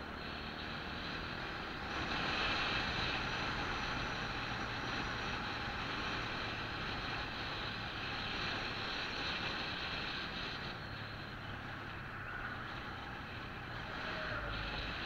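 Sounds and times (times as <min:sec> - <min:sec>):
motorbike engine hum: 0:00.0 - 0:15.0.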